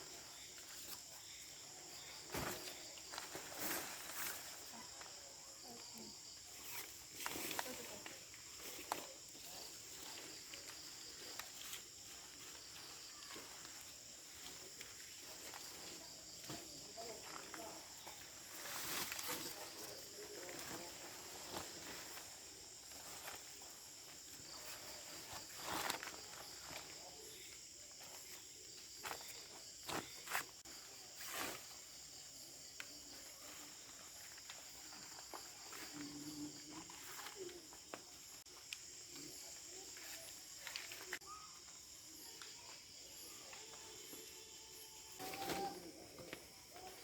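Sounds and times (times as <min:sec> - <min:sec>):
crickets and insects chirping: 0:00.0 - 0:47.0.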